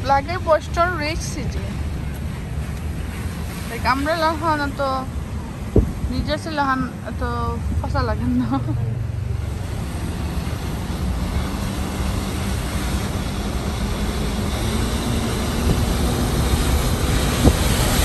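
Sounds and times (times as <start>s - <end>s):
vehicle rumble from inside: 0.0s - 18.0s.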